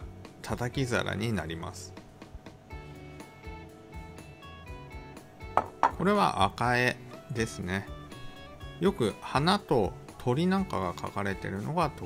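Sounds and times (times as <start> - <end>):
soft background melody: 0.0 - 12.0.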